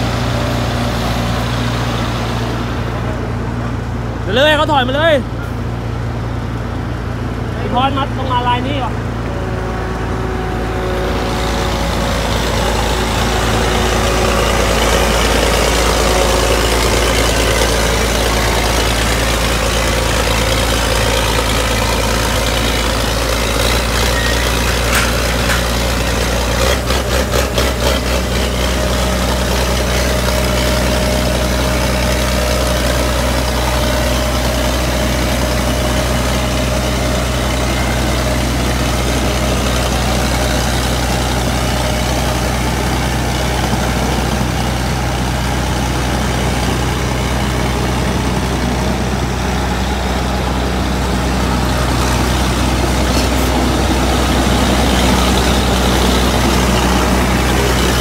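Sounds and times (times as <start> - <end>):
heavy engine idling: 0.0 - 58.0.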